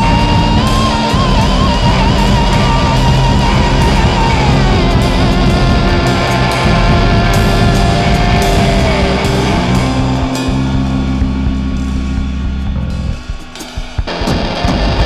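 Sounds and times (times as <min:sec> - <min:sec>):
rock song: 0:00.0 - 0:15.0.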